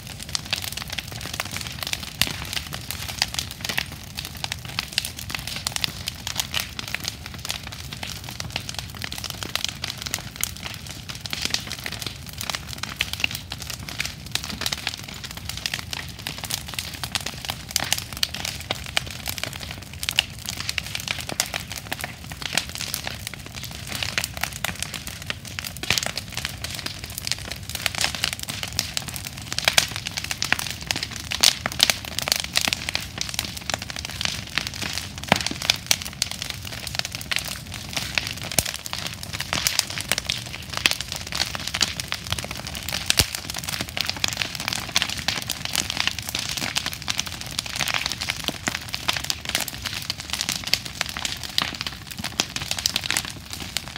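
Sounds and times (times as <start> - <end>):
bonfire crackling: 0.0 - 53.9.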